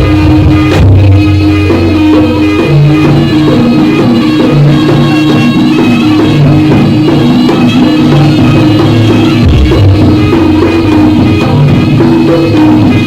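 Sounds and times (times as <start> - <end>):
drums keeping steady rhythm: 0.0 - 13.0
held repeating pitched notes: 0.0 - 13.0.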